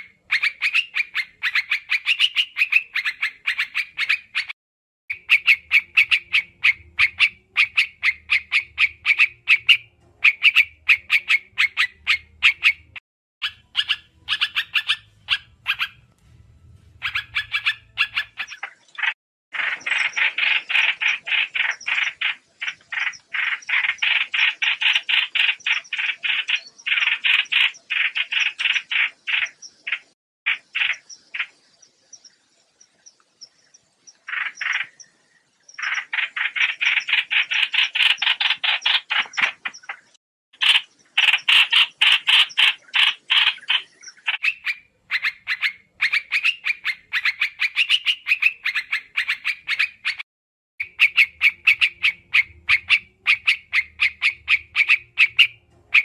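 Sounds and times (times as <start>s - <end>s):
bird chattering call: 5.1s - 16.1s, 17.0s - 31.6s, 34.2s - 35.1s, 35.8s - 50.2s, 50.8s - 56.0s.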